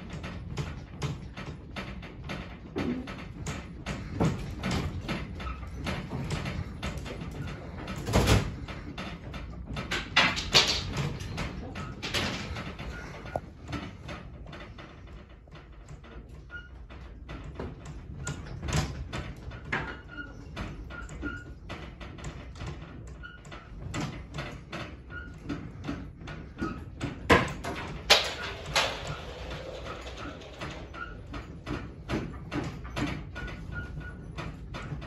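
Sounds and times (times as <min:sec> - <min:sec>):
room rattling and creaking: 0:00.0 - 0:35.0.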